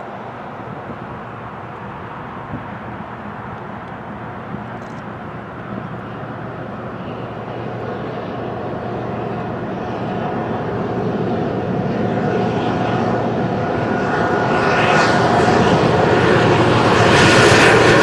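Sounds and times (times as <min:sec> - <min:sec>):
diesel locomotive engines: 0:00.0 - 0:18.0.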